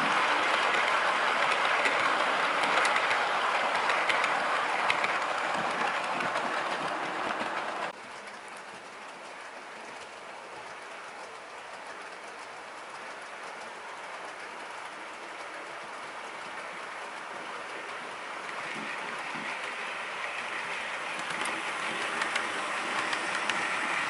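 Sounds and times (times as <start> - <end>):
model train rolling rumble: 0.0 - 24.0
wheels clicking on rails: 0.0 - 24.0.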